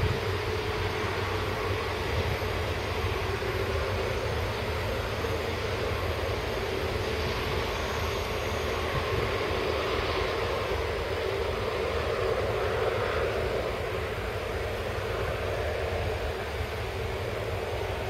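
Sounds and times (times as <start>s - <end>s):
jet engines running at low thrust: 0.0s - 18.0s.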